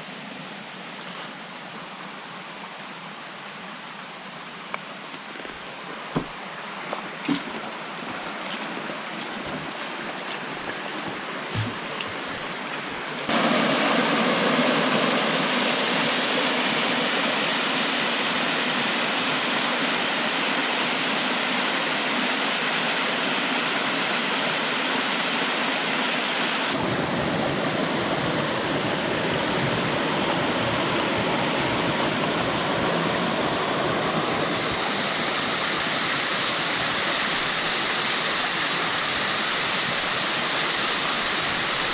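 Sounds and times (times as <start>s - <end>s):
stream and waterfall rushing: 0.0s - 41.9s.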